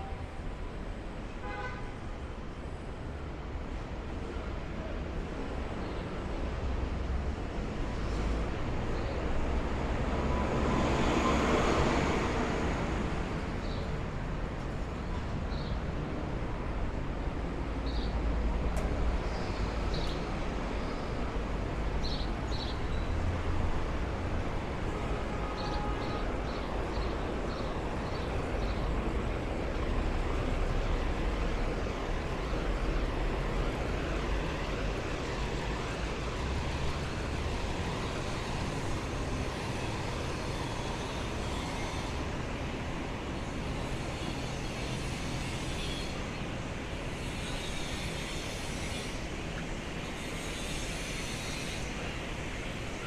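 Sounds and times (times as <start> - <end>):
street traffic rumble: 0.0 - 53.0.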